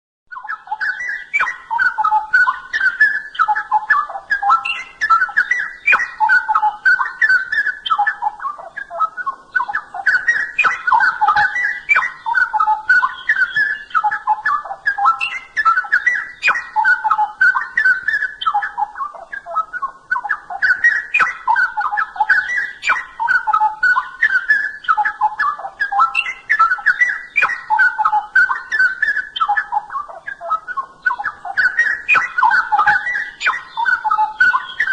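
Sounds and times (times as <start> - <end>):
bird singing warbling phrases: 0.3 - 34.9.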